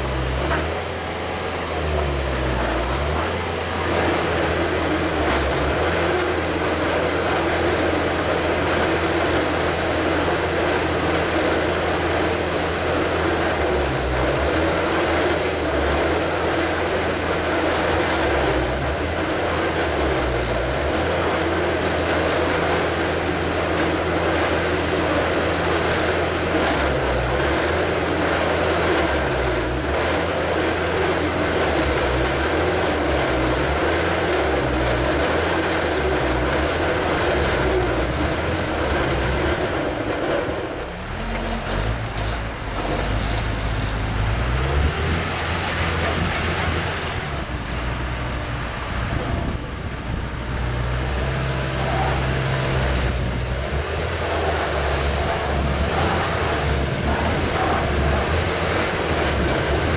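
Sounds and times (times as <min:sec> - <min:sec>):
pressure digger drilling into rock: 0:01.7 - 0:47.5, 0:51.3 - 0:59.9.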